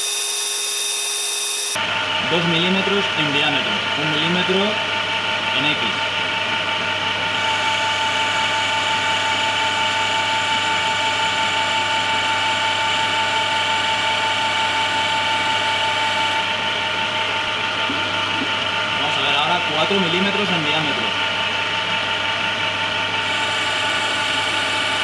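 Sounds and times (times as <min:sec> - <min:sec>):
lathe motor whine: 0:00.0 - 0:25.0.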